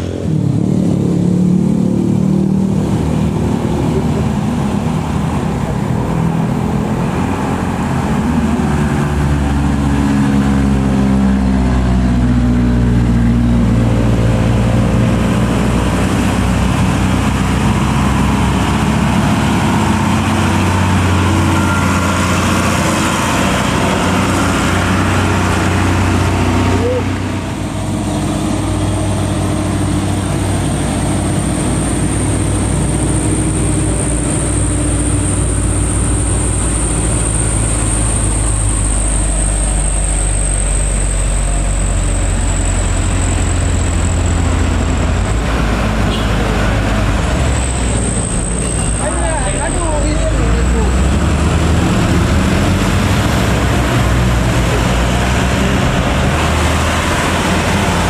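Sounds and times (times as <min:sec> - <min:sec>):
diesel truck engine labouring: 0:00.0 - 0:58.0
diesel trucks passing: 0:00.0 - 0:58.0.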